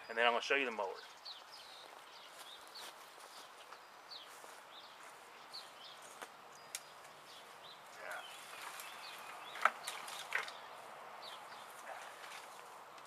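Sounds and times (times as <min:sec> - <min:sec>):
birds chirping: 0:00.0 - 0:13.0
faint outdoor background noise: 0:00.0 - 0:13.0.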